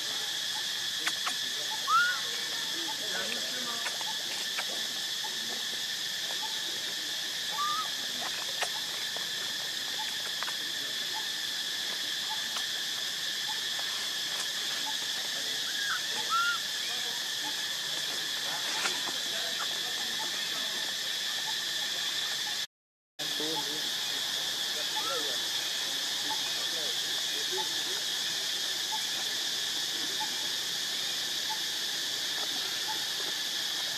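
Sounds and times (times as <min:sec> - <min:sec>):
insects droning: 0:00.0 - 0:33.9.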